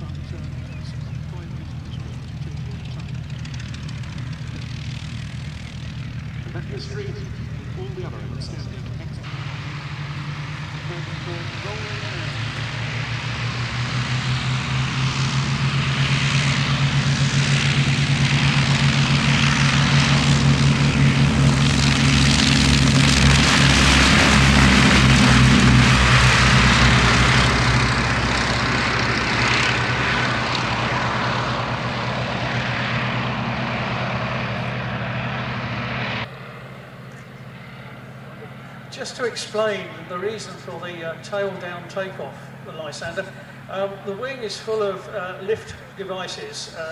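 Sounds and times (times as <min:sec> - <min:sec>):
radial aircraft engines: 0:00.0 - 0:46.9.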